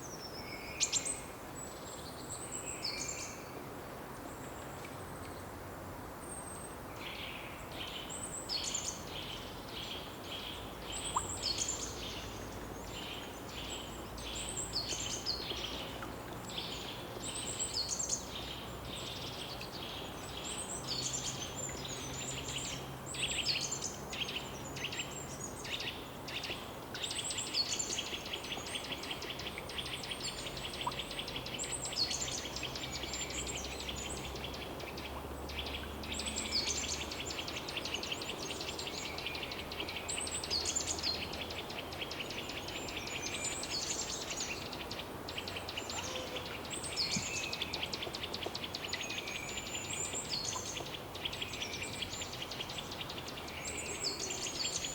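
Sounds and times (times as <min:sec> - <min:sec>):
songbirds singing: 0:06.6 - 0:54.9.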